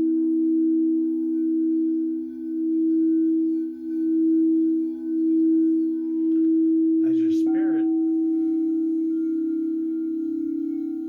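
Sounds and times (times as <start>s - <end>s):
singing bowl ringing: 0.0s - 11.0s.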